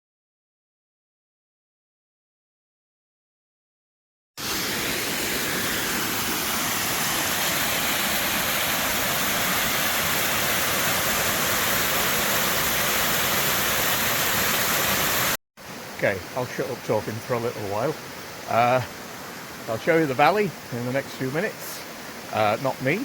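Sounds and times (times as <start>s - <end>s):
waterfall roaring: 4.4s - 23.0s.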